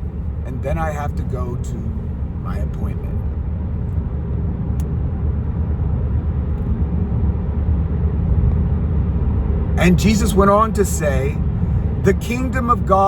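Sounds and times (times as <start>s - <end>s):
moving vehicle rumble: 0.0s - 13.0s.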